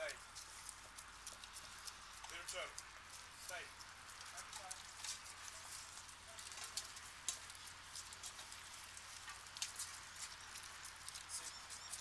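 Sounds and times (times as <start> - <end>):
dogs chewing and licking: 0.0 - 12.0.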